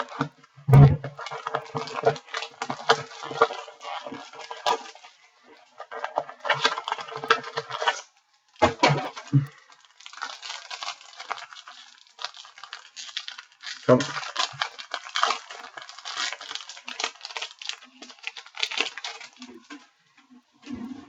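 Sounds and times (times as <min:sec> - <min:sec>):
wrapper tearing: 0:01.0 - 0:05.2, 0:05.8 - 0:19.9
card wrappers rustling and crinkling: 0:01.0 - 0:21.0.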